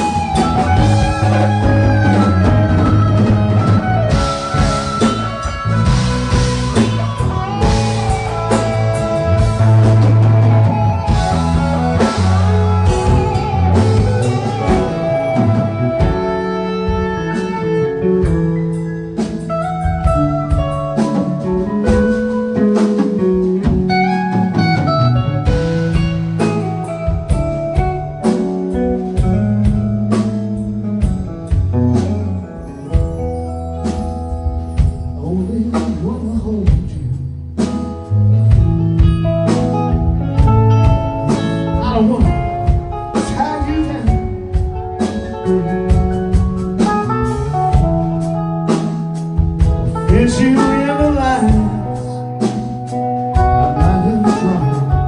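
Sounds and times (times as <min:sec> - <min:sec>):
rock band instrumental: 0:00.0 - 0:55.0.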